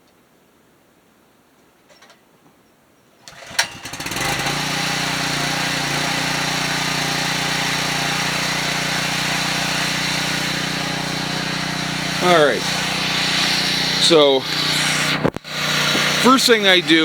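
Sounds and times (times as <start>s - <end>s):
generator engine starting and running: 3.2s - 17.0s.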